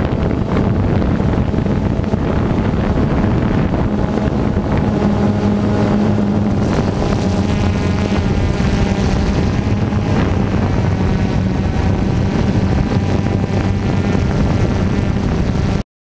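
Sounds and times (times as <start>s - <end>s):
drone propellers humming: 0.0s - 15.8s
wind noise on microphone: 0.0s - 15.8s.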